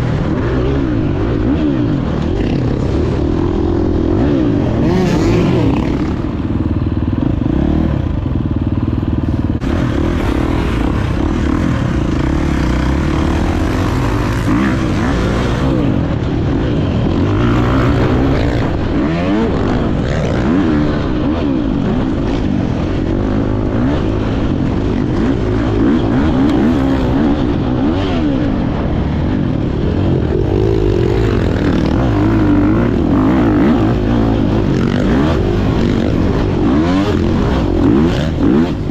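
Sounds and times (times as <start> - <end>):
dirt bike engine revving: 0.0 - 38.9
wind rumbling on microphone: 0.0 - 38.9.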